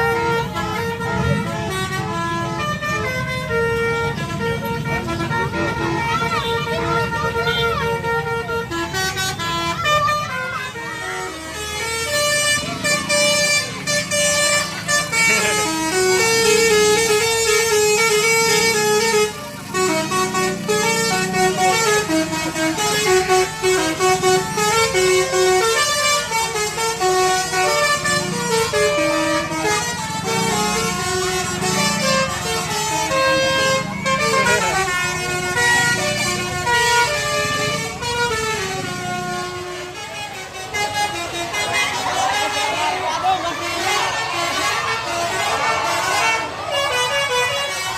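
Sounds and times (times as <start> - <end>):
musical bus horns playing melodies: 0.0 - 47.9.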